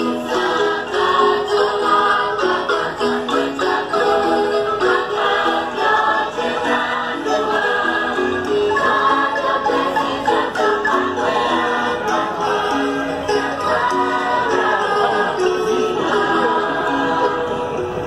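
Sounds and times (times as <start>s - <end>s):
choir singing a hymn: 0.0s - 18.0s
instrumental and percussion accompaniment: 0.0s - 18.0s.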